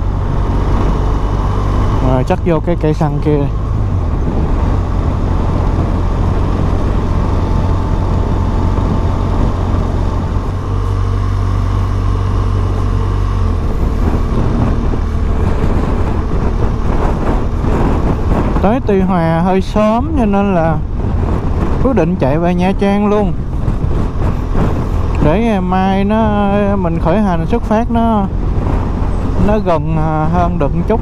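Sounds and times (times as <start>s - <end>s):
motorcycle engine running: 0.0s - 30.6s
wind and road noise: 0.0s - 31.0s.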